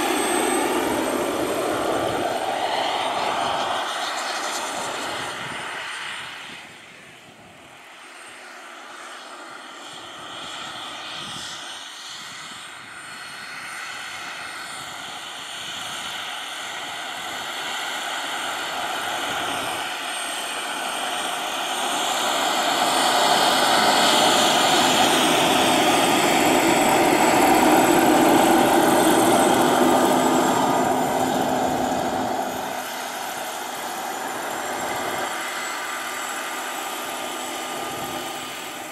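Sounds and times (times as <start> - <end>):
model helicopter flying: 0.0 - 38.9.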